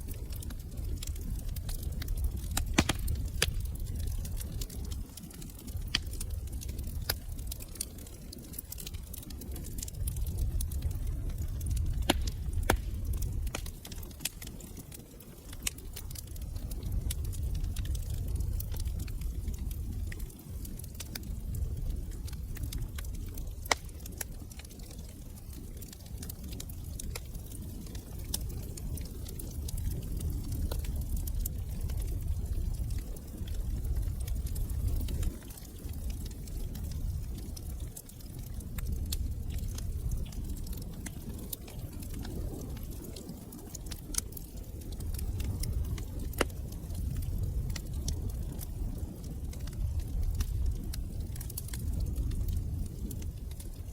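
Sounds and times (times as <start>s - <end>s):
log fire crackling: 0.0s - 53.9s
low rumble of burning: 0.0s - 53.9s
small pops of fire: 0.0s - 53.9s.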